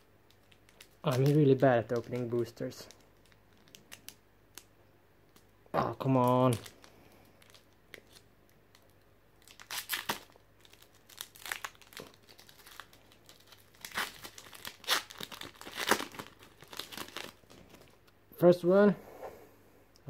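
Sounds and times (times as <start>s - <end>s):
foil wrapper crinkling and tearing: 0.0s - 4.7s, 5.9s - 18.0s.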